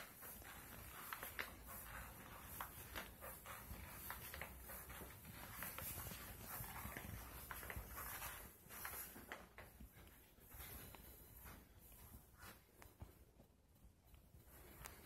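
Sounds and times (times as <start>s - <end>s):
footsteps on carpeted stairs: 0.0s - 15.0s.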